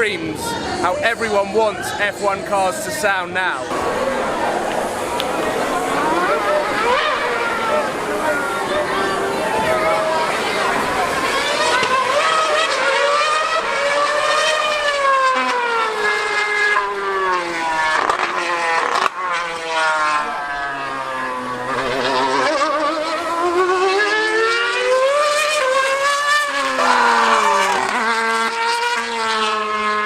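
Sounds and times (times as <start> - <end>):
racing car engine screaming: 3.6 - 30.0.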